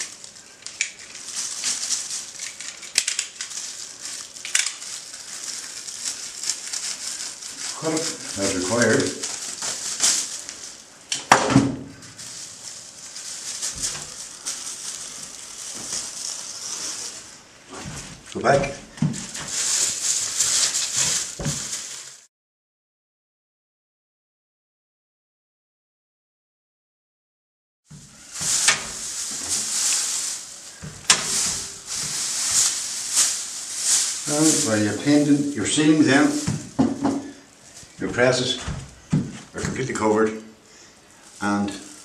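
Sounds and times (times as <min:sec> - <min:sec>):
plastic film rustling and crinkling: 0:00.0 - 0:22.3, 0:27.9 - 0:40.4, 0:41.1 - 0:42.0.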